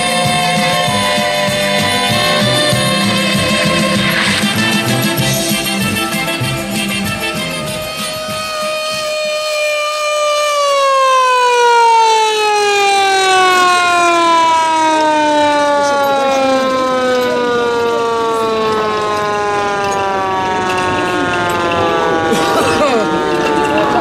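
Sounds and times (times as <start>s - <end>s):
siren winding down: 0.0s - 24.0s.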